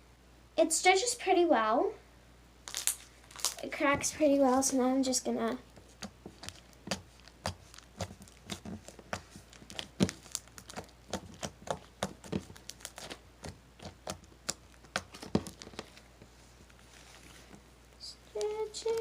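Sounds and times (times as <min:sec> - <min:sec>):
slime crackling: 0:02.7 - 0:16.0, 0:16.7 - 0:19.0.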